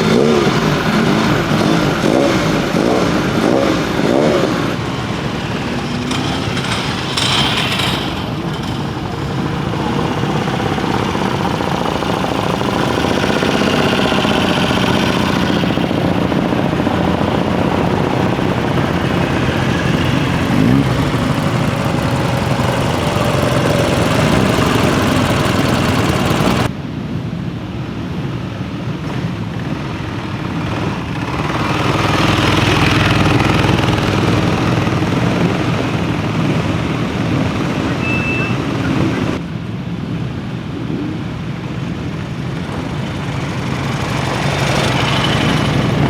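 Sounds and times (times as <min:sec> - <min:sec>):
motorcycle engines racing: 0:00.0 - 0:26.7, 0:28.8 - 0:39.7, 0:40.4 - 0:46.0.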